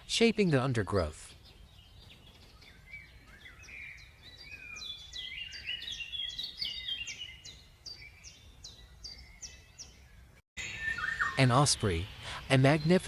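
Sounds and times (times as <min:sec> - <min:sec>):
bird chirps: 0:00.0 - 0:13.0
sharp down-slurred bird notes: 0:00.3 - 0:13.0.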